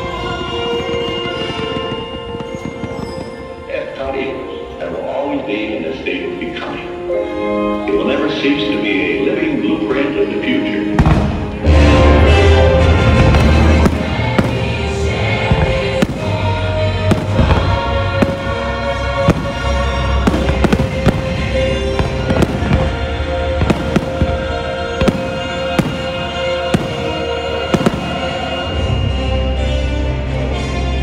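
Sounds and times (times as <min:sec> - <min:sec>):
music with long held note: 0:00.0 - 0:31.0.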